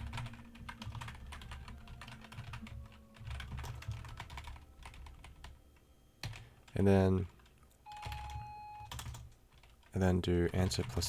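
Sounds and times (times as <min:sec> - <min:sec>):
typing on computer keyboard: 0:00.0 - 0:05.6, 0:06.2 - 0:11.0.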